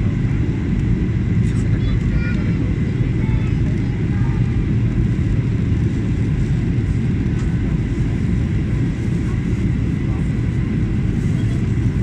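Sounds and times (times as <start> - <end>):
airflow over fuselage: 0.0 - 12.0
jet engines rumbling: 0.0 - 12.0.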